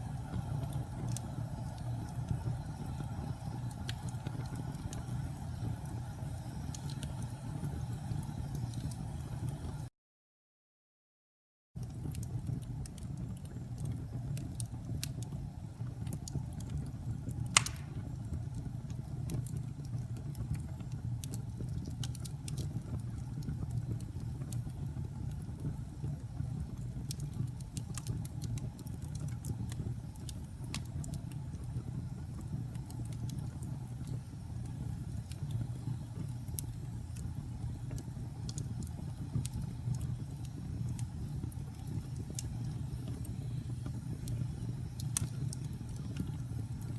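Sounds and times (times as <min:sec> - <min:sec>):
fire crackles and pops: 0:00.0 - 0:09.9, 0:11.8 - 0:46.9
fire flames rumbling: 0:00.0 - 0:09.9, 0:11.8 - 0:46.9.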